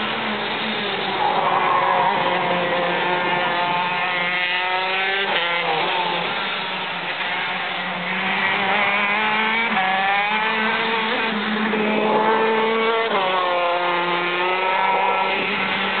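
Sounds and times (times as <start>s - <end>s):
racing kart engine revving: 0.0s - 16.0s.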